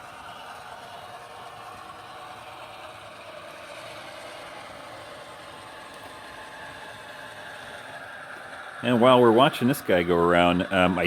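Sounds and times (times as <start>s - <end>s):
model train diesel engine sound: 0.0s - 11.0s.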